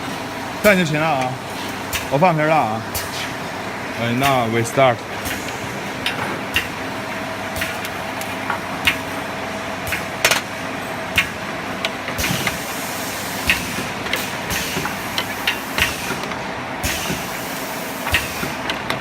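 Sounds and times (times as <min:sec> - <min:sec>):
machine mechanical noise: 0:00.0 - 0:19.0.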